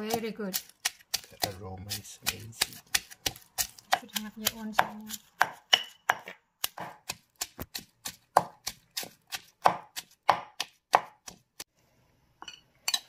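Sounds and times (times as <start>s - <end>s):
pestle pounding garlic in mortar: 0.0s - 11.6s.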